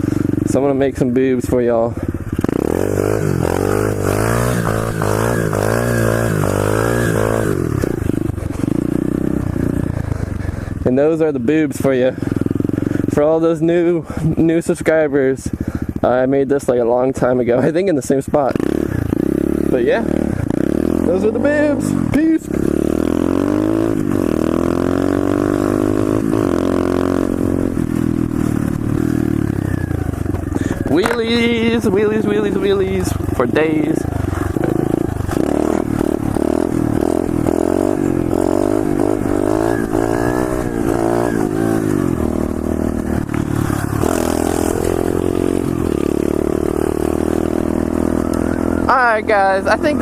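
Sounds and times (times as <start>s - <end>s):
small motorbike engine revving: 1.8s - 14.6s, 18.4s - 50.0s.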